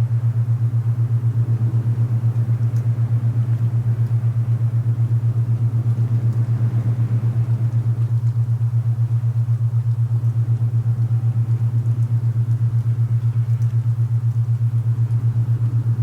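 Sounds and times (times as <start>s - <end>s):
low pulsing hum: 0.0s - 16.0s.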